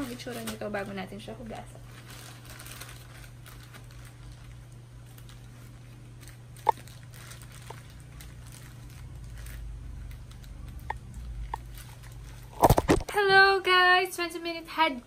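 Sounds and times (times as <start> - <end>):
plastic shower cap crinkling: 0.0 - 13.2
steady low hum: 0.0 - 15.0.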